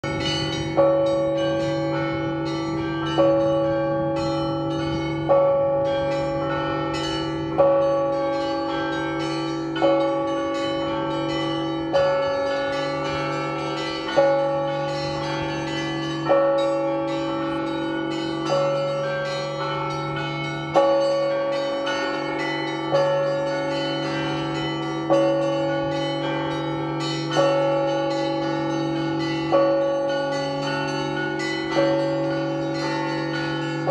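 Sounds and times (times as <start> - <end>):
deep bells ringing: 0.0 - 33.9
heavy church bell strikes: 0.0 - 33.9.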